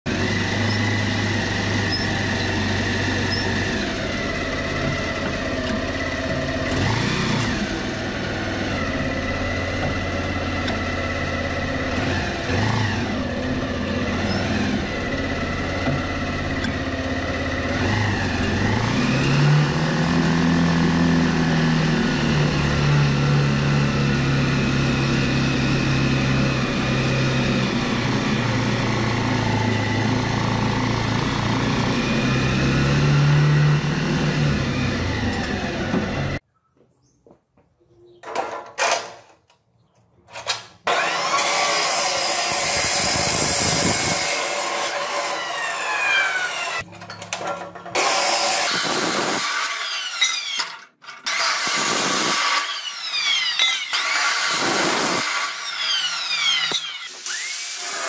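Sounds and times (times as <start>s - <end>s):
trike engine revving: 0.1s - 36.4s, 40.8s - 46.9s, 47.9s - 49.8s, 51.3s - 57.5s.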